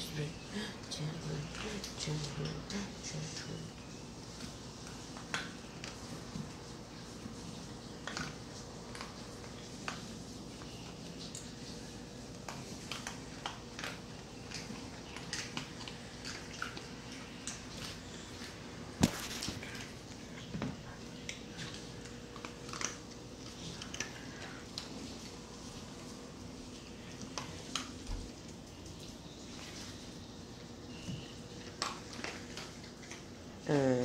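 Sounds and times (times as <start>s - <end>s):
dog crunching kibble: 3.8s - 30.6s, 31.3s - 33.6s.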